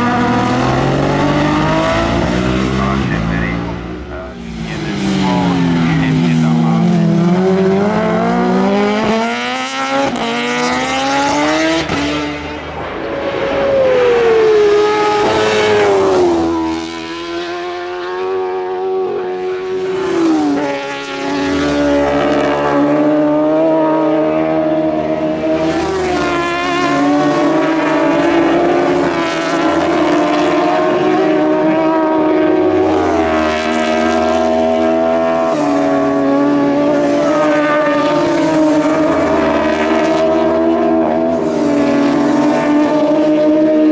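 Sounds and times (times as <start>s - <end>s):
racing motorcycle engines revving: 0.0s - 43.9s.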